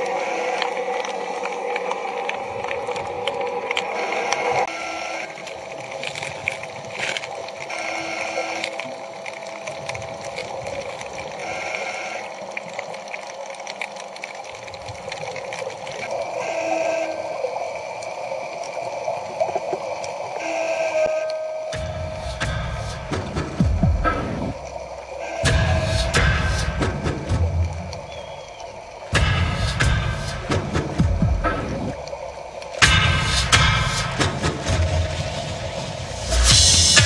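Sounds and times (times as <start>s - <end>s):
underwater bubbling: 0.0s - 37.0s.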